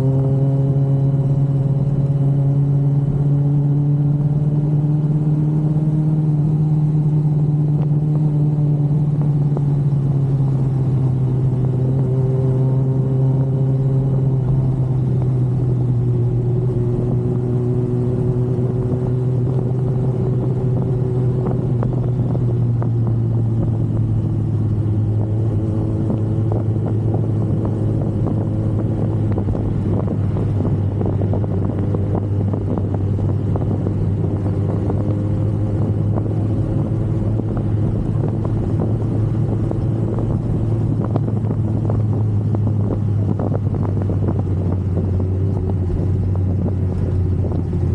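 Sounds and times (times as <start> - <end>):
motorcycle engine droning: 0.0 - 47.9.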